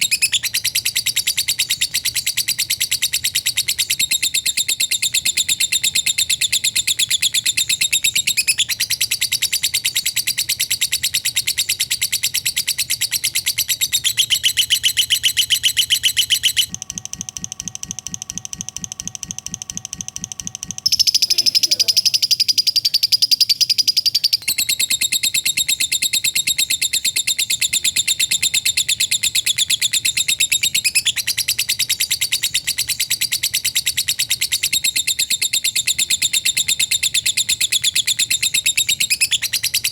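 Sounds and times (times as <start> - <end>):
lovebird chattering: 0.0 - 16.7, 18.1 - 39.9.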